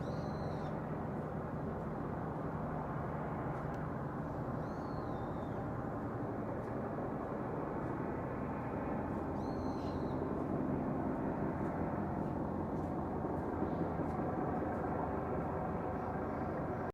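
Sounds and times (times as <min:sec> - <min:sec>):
low traffic rumble: 0:00.0 - 0:16.9.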